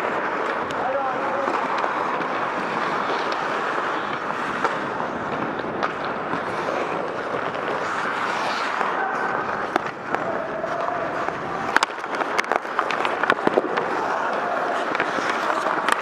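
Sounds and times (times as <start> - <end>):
skates scraping on ice: 0.0 - 16.0.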